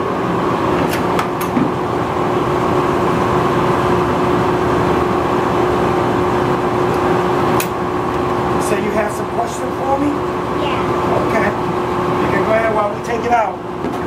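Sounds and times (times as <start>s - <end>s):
freezer machine humming: 0.0s - 14.0s.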